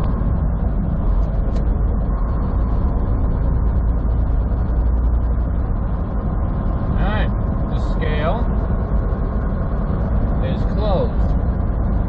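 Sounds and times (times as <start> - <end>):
engine and road rumble in vehicle: 0.0 - 12.0.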